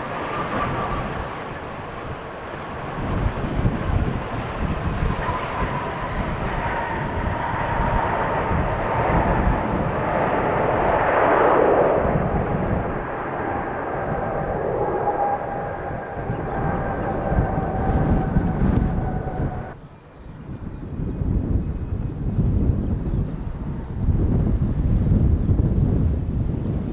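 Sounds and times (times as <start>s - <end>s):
jet airliner engine roar: 0.0s - 26.9s
jet engine whine: 0.0s - 26.9s.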